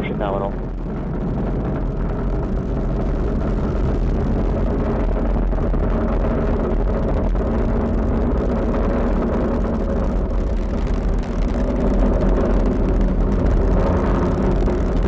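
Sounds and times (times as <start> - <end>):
rocket engines deep rumble: 0.0 - 15.0.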